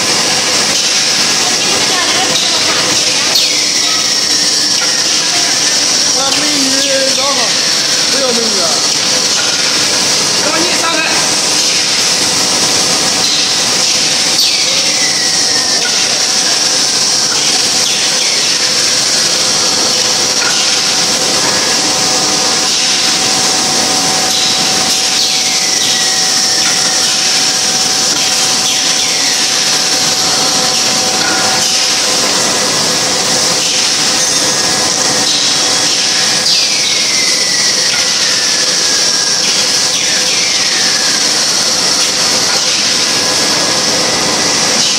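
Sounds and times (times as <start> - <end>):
production line machinery running: 0.0 - 44.9.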